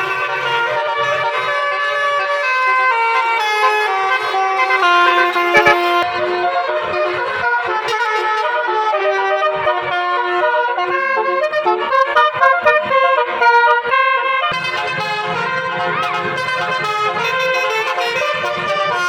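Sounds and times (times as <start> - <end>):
musical car horn tune: 0.0 - 19.0.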